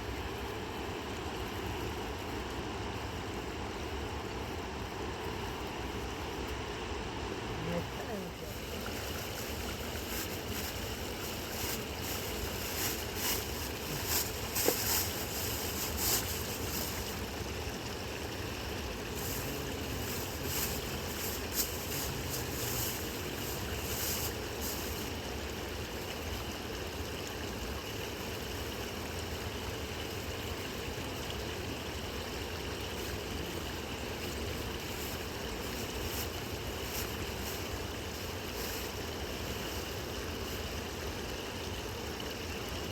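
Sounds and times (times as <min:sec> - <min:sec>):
river flowing: 0:00.0 - 0:42.9.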